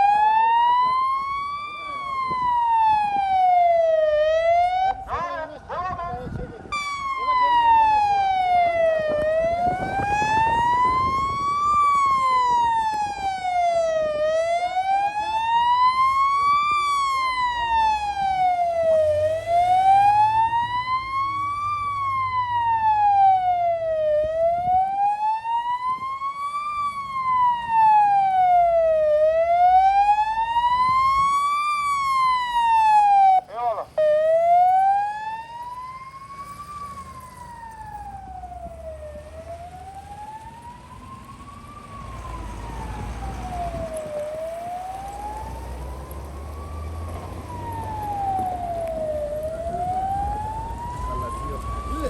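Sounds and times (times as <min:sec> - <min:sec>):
emergency siren wailing: 0:00.0 - 0:52.0
low traffic rumble: 0:00.0 - 0:52.0.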